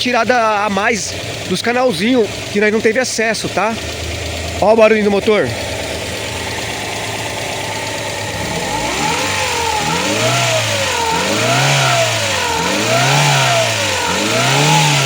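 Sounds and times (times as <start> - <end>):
car engine revving: 0.0 - 15.0
power steering pump groan: 0.0 - 15.0.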